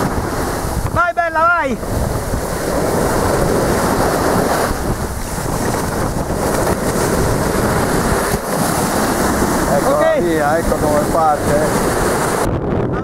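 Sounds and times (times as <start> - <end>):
surf washing on sand: 0.0 - 13.0
wind buffeting microphone: 0.0 - 13.0.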